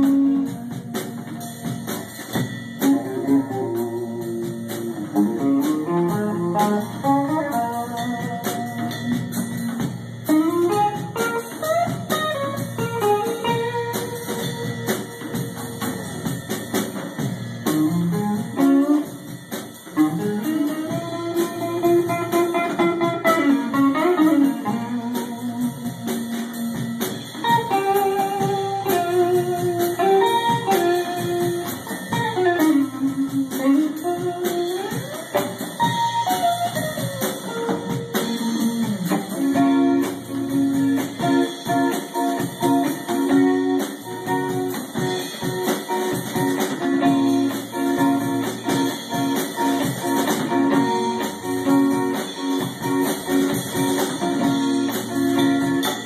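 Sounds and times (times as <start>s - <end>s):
electric guitar lead line: 0.0s - 56.0s
rock band playing live: 0.0s - 56.0s.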